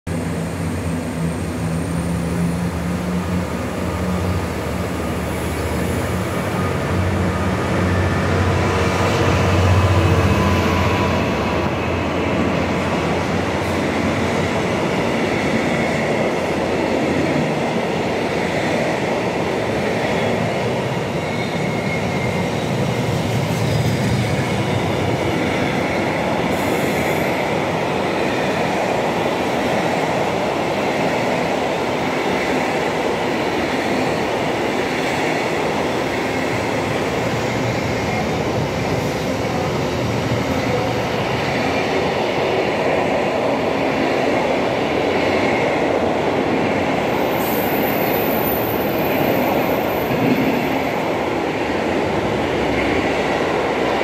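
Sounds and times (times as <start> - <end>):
diesel locomotive engine passing: 0.1 - 54.0.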